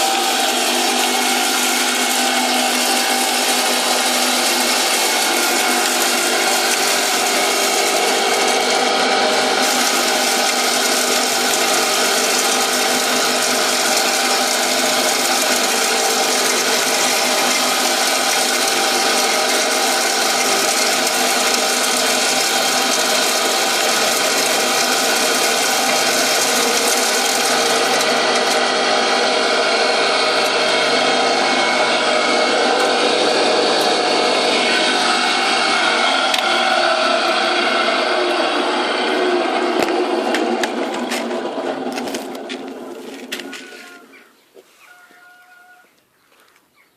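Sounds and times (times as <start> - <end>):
wood chipper motor humming: 0.0 - 46.0.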